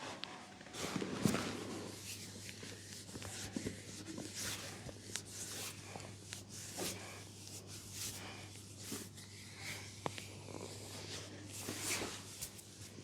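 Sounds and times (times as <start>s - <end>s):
hands rubbing skin: 1.9s - 13.0s.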